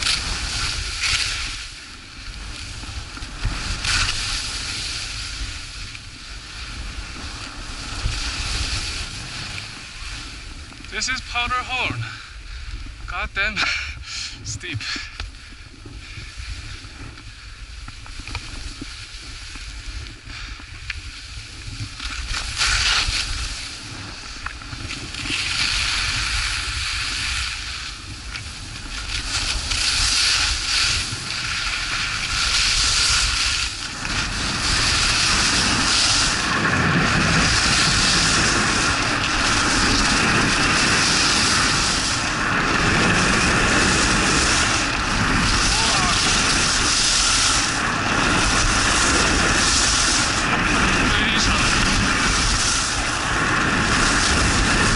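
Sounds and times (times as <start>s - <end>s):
skis scraping on packed snow: 0.0s - 12.2s, 15.7s - 54.9s
wind rushing over microphone: 0.0s - 54.9s.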